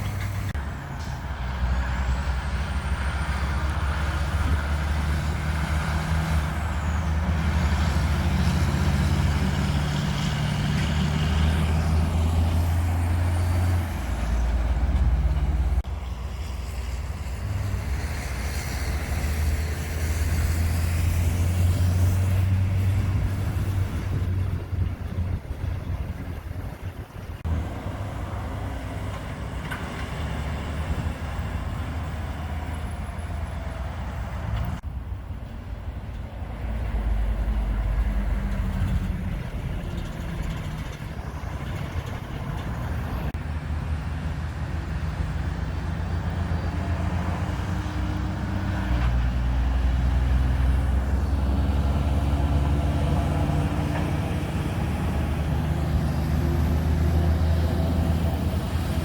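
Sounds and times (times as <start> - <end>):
diesel trucks passing: 0.0 - 59.0
traffic noise: 0.0 - 59.0.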